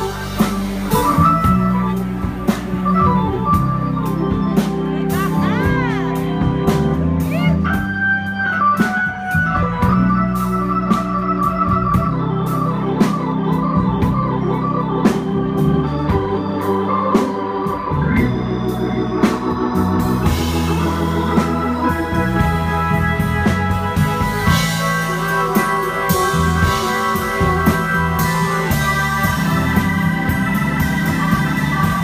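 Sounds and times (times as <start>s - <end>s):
drums keeping time: 0.0s - 32.0s
organ playing chords: 0.0s - 32.0s.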